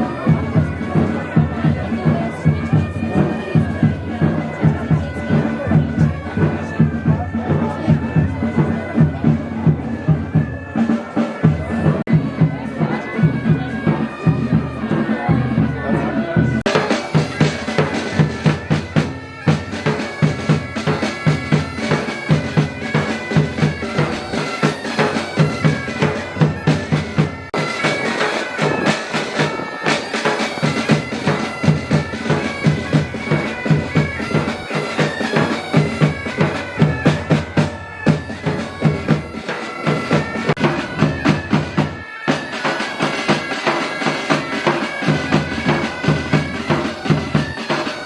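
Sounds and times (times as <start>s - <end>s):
bagpipe melody with drone: 0.0s - 48.0s
steady drum beat: 0.0s - 48.0s.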